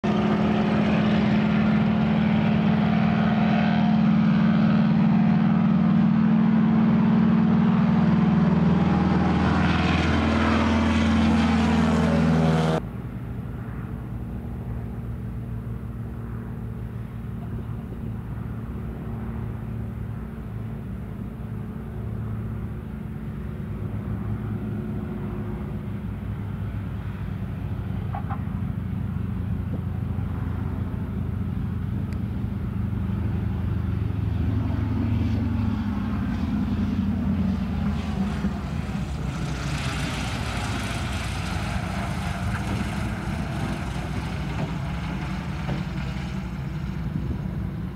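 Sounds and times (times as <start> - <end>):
low engine drone: 0.0 - 47.9
propeller plane engine roaring: 0.0 - 47.9.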